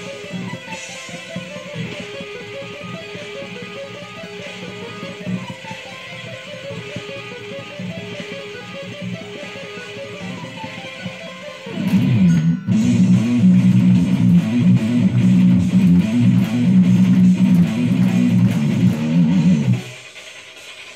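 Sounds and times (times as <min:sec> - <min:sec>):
electric guitar riff: 0:00.0 - 0:20.9.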